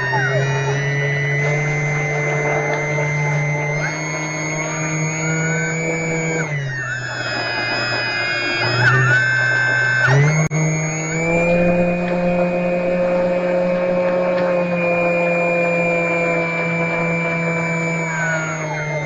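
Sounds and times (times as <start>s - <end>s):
model plane motor buzzing whine: 0.0s - 19.0s.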